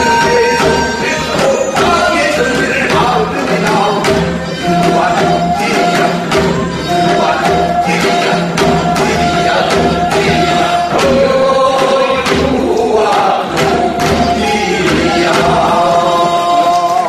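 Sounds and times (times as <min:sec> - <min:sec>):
percussion strikes: 0:00.0 - 0:17.0
voices singing together: 0:00.0 - 0:17.0.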